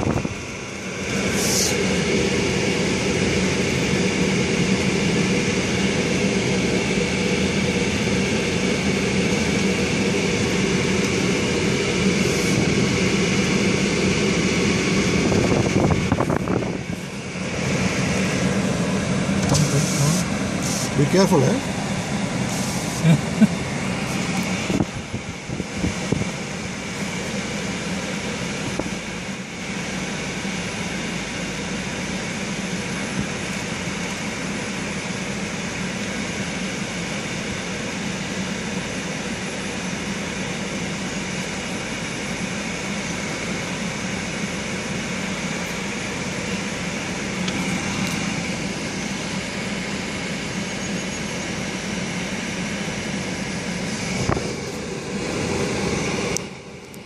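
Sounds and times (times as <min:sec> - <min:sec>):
car engine humming: 0:00.0 - 0:57.0.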